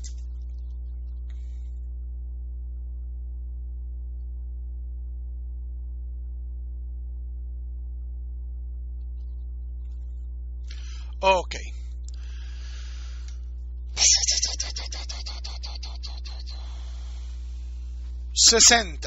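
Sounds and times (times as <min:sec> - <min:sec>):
mains hum: 0:00.0 - 0:19.0.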